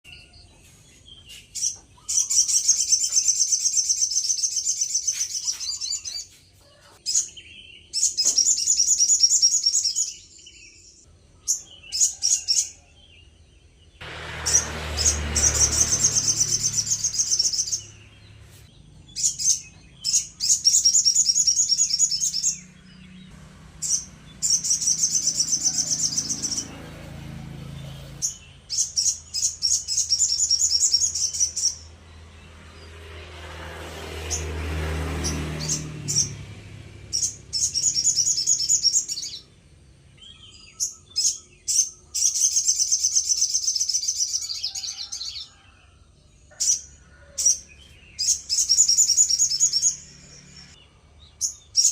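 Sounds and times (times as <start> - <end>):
bird trilling song: 0.0 - 27.0, 27.6 - 32.9, 35.2 - 45.7, 46.5 - 51.9.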